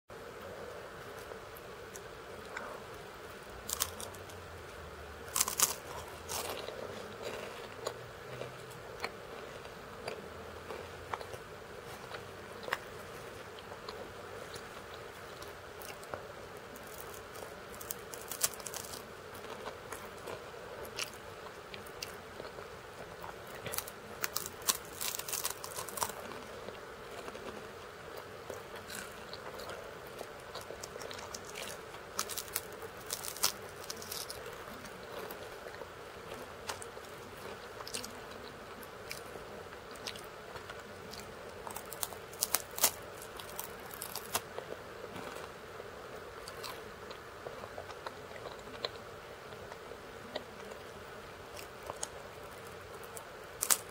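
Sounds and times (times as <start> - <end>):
background hiss: 0.1 - 53.9
crunching crackers: 0.4 - 53.9.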